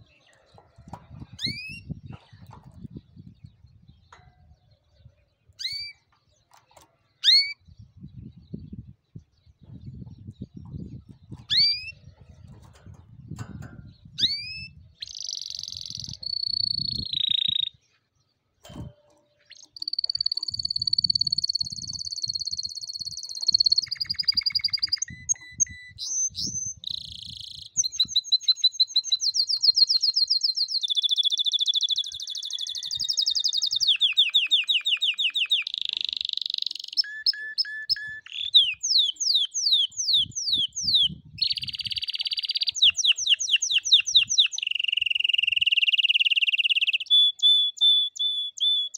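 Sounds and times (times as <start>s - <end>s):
canary singing: 0.0s - 9.3s, 10.2s - 17.8s, 18.6s - 48.9s.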